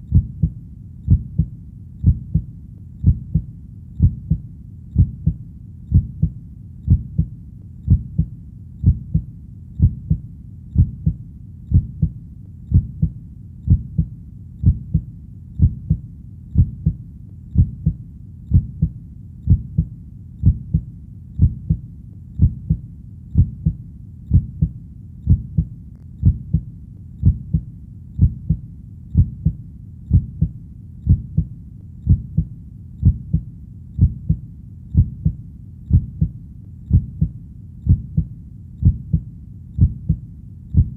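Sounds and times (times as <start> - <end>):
heartbeat thumping: 0.0 - 40.9.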